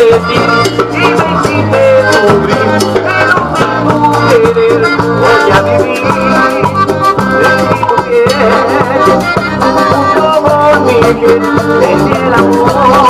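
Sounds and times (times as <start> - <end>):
cumbia band playing: 0.0 - 13.0.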